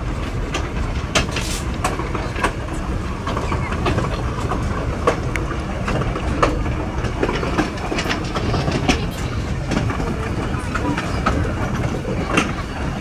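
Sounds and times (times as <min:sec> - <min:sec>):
train rumbling on rails: 0:00.0 - 0:13.0
wheels clicking and knocking: 0:00.0 - 0:13.0.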